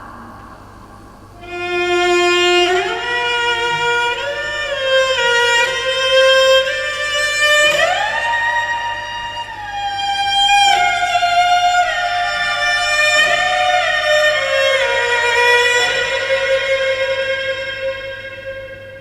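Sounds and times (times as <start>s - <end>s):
solo cello melody: 1.4s - 19.0s.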